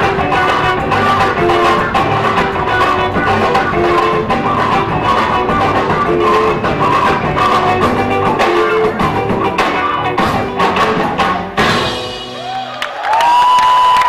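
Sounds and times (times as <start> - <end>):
drum kit: 0.0 - 13.5
bass guitar: 0.0 - 13.6.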